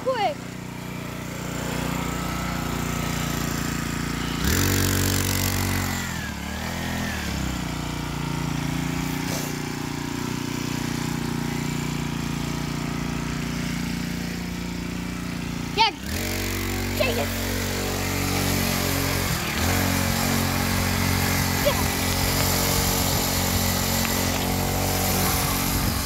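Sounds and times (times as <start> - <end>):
small engine running and revving: 0.0 - 26.0.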